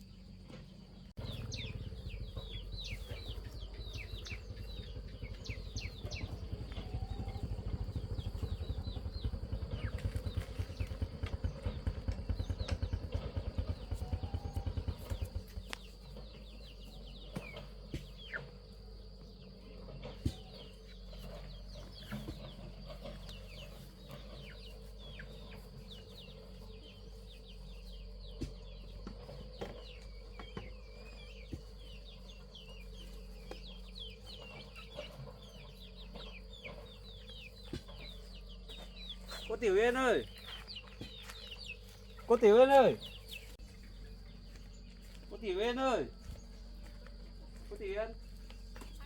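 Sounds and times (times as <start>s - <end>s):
chicks peeping: 0.4s - 49.0s.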